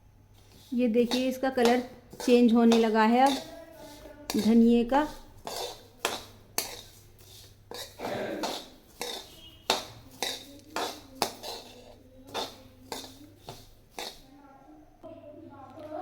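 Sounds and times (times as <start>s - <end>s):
metal spoon scraping a pan: 0.4s - 14.3s.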